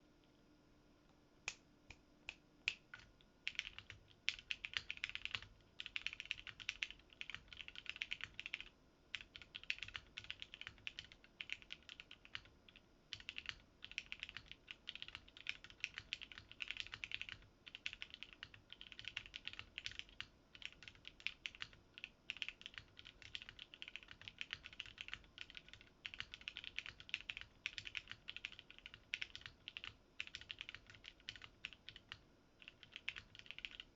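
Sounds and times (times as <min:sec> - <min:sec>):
mechanical keyboard typing: 0:02.7 - 0:33.9.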